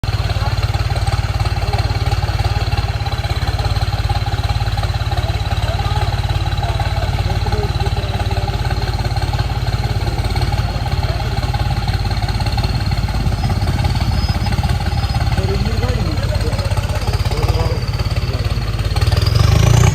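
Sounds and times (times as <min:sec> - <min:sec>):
diesel tractor engine chugging: 0:00.0 - 0:19.9.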